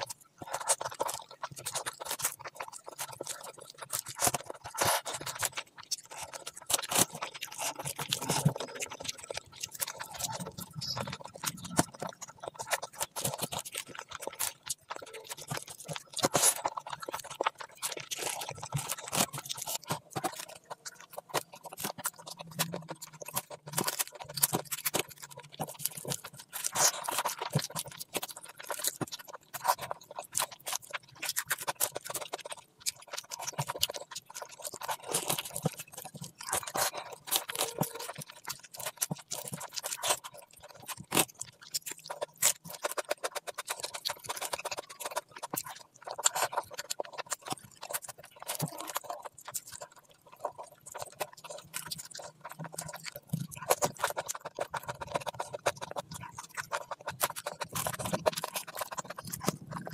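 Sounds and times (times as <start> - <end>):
clicks and crunches: 0.0 - 59.9
wet chewing and lip smacking: 0.0 - 59.9.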